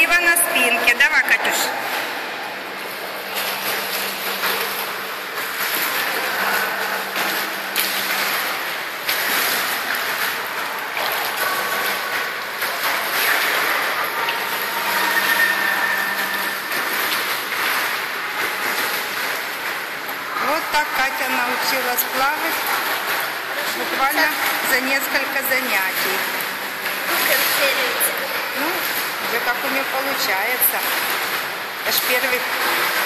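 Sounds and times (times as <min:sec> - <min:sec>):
echoing pool wash: 0:00.0 - 0:33.0
swimmer splashing: 0:00.0 - 0:33.0.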